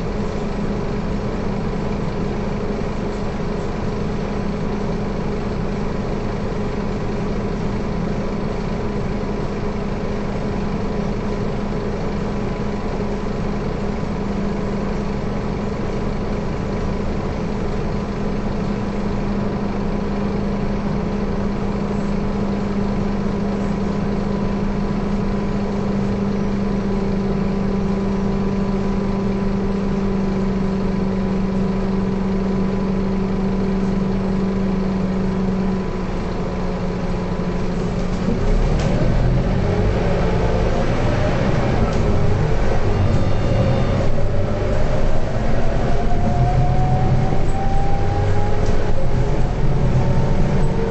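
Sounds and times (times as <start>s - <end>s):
diesel bus engine idling: 0.0s - 50.9s.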